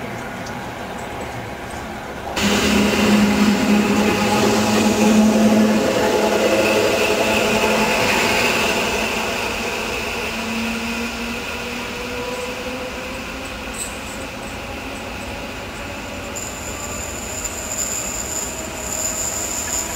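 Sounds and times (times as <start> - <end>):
electric train rumbling hum: 0.0 - 19.9.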